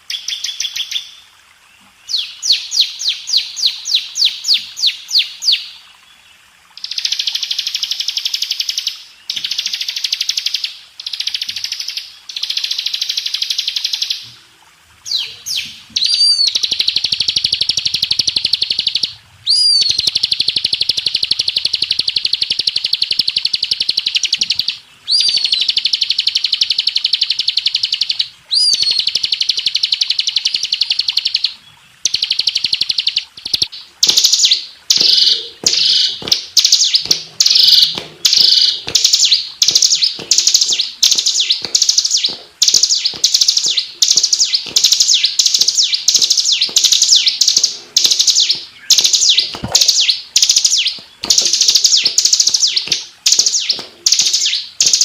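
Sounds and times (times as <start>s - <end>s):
bird song trills and chirps: 0.0s - 14.4s, 15.0s - 55.0s.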